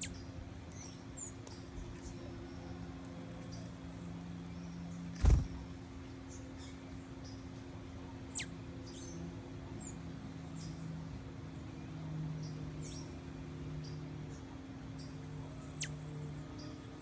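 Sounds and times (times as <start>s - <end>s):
songbirds chipping: 0.0s - 11.0s, 12.4s - 17.0s
steady low hum: 0.0s - 17.0s.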